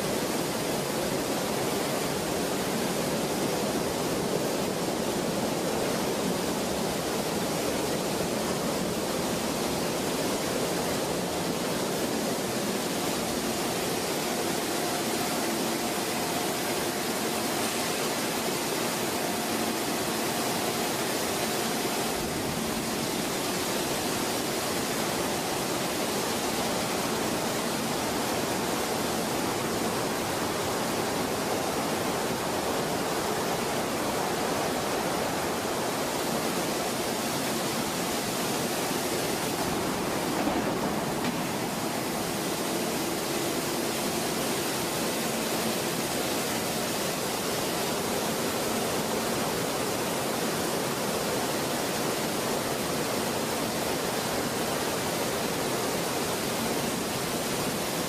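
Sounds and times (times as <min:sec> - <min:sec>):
rolling mill rushing din: 0:00.0 - 0:58.0.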